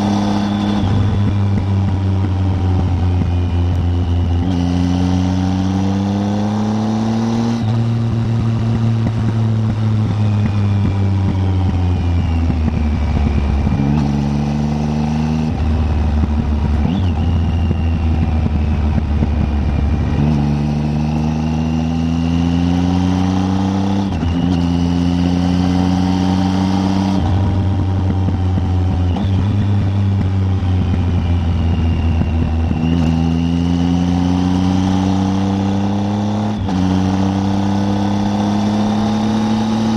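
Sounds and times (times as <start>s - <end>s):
motorcycle engine changing gear: 0.0s - 39.9s.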